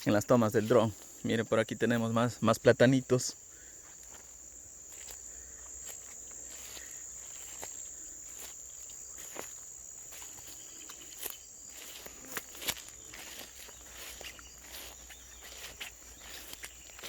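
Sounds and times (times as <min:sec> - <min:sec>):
footsteps through crop plants: 0:00.0 - 0:02.1, 0:03.7 - 0:17.0
insect chorus buzzing: 0:00.0 - 0:17.0.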